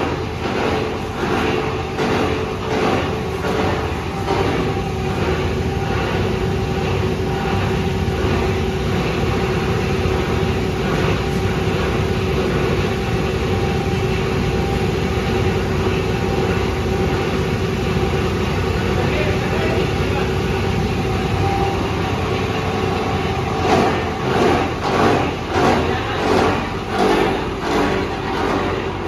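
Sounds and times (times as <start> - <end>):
granulator machine rumbling: 0.0 - 29.0.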